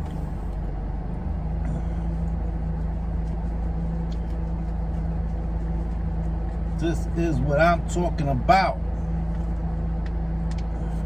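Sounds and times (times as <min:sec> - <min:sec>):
low rumble with hum: 0:00.0 - 0:11.0.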